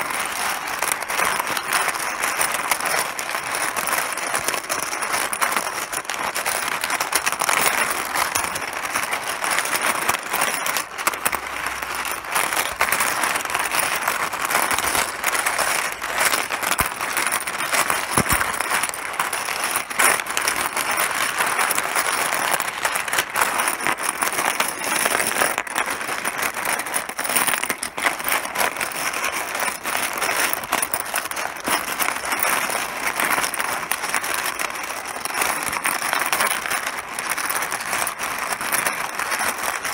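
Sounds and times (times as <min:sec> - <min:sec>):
mahjong tiles clattering: 0:00.0 - 0:39.9.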